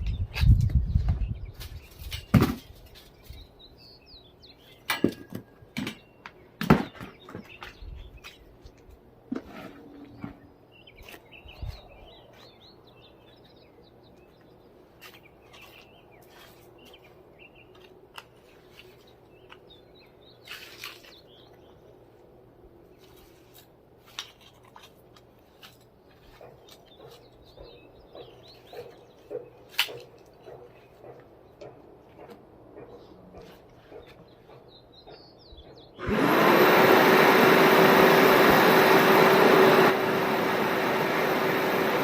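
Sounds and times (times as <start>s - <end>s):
small birds chirping: 0.0s - 9.0s, 9.9s - 37.0s.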